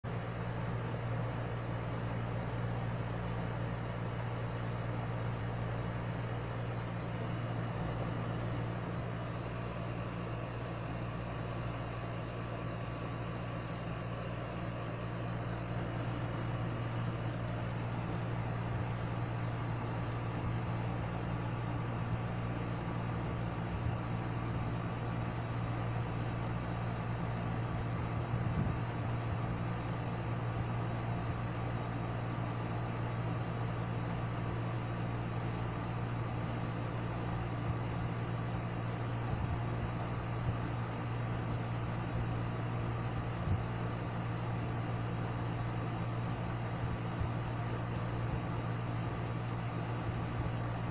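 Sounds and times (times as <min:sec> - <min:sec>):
mechanical hum: 0:00.0 - 0:50.9.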